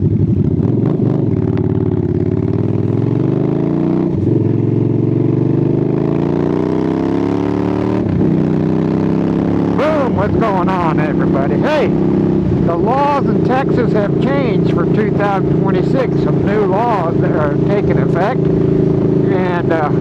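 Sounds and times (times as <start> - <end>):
motorcycle accelerating hard: 0.0 - 20.0.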